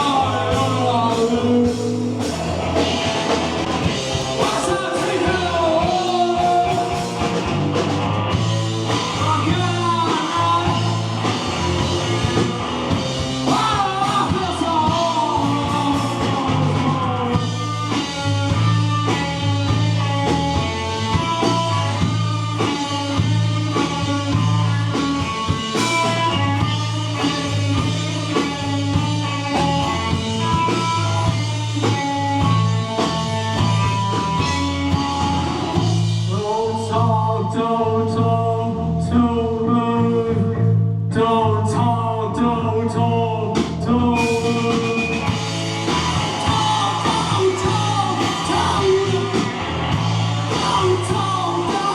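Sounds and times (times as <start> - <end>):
electric guitar lead bending: 0.0 - 36.5, 43.9 - 51.9
live rock band playing: 0.0 - 37.1, 43.5 - 51.9.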